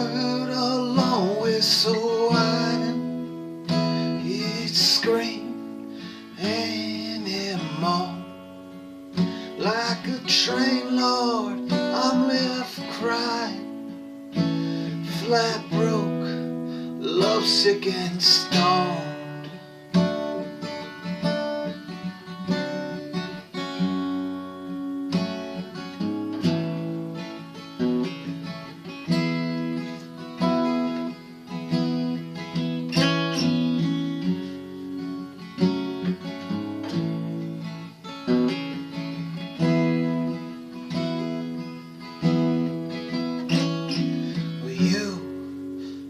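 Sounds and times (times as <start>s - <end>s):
acoustic guitar chords: 0.0s - 46.0s.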